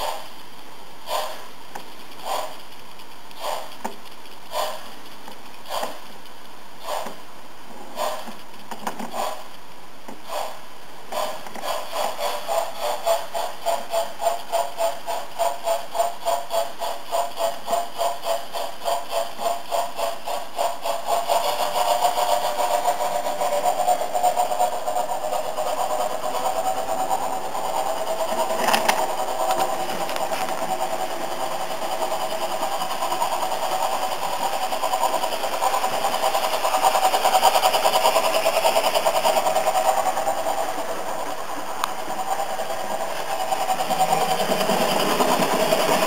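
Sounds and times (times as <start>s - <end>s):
model steam locomotive chuffs: 0.0s - 46.0s.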